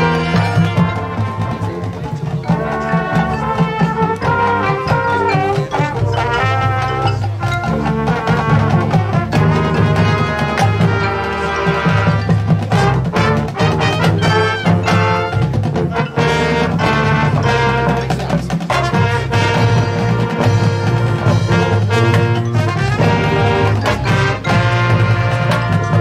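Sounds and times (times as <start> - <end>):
drum strokes: 0.0 - 26.0
marching band brass: 0.0 - 26.0.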